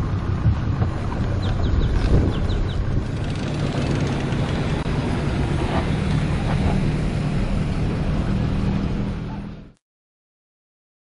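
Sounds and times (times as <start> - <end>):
wind rushing over microphone: 0.0 - 9.3
boat motor running: 0.1 - 9.8.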